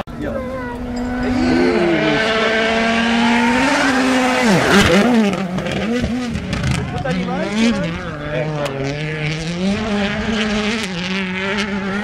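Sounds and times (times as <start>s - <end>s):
rally car engine revving: 0.0s - 12.0s
exhaust crackles: 0.4s - 12.0s.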